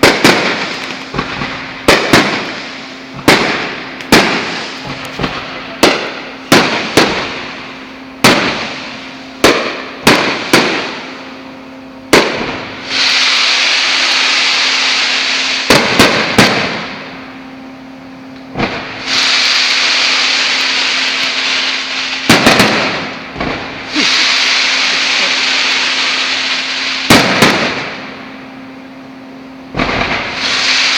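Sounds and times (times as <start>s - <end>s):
fireworks bangs: 0.0s - 11.4s, 12.1s - 17.3s, 18.5s - 28.3s, 29.7s - 30.9s
fireworks hissing crackle: 0.0s - 17.5s, 18.4s - 28.7s, 29.7s - 30.9s.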